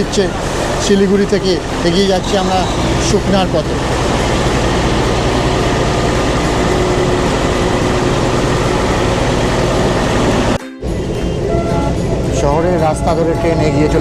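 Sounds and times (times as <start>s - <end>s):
train engine rumble and rolling: 0.0s - 14.0s.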